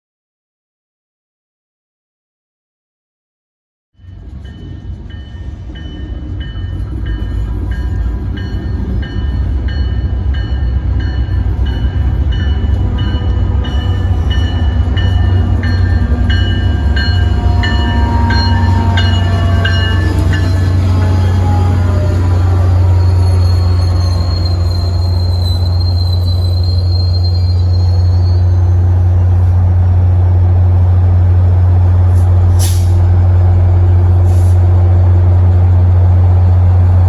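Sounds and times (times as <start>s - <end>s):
train rumbling: 4.0s - 37.0s.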